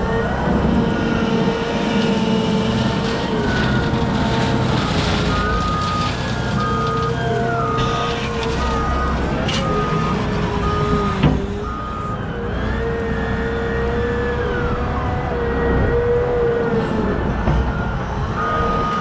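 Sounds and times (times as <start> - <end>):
wheel loader diesel engine whining: 0.0 - 19.0
reversing alarm beeping: 2.6 - 16.8, 17.5 - 19.0.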